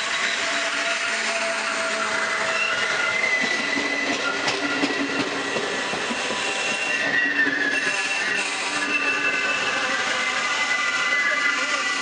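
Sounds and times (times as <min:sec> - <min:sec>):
high-pitched wheel squeal: 0:00.0 - 0:12.0
train wheels rumbling on rails: 0:00.0 - 0:12.0.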